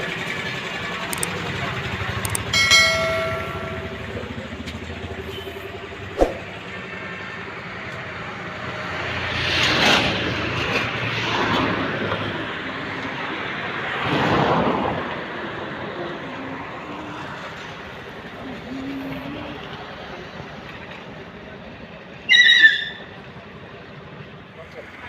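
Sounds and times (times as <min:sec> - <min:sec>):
low engine rumble of traffic: 0:00.0 - 0:25.0
vehicles passing close by: 0:00.0 - 0:25.0.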